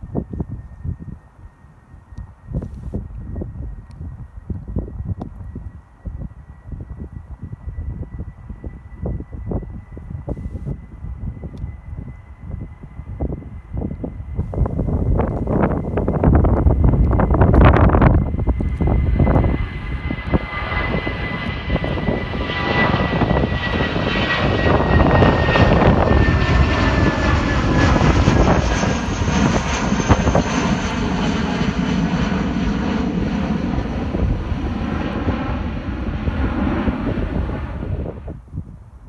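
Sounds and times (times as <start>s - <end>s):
wind gusts on microphone: 0.0s - 39.0s
jet engines roaring: 0.1s - 39.0s.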